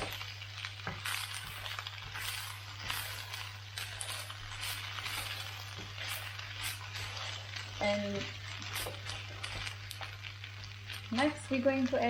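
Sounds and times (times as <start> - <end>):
spatula strokes: 0.0 - 11.3
rice sizzling in a pan: 0.0 - 12.0.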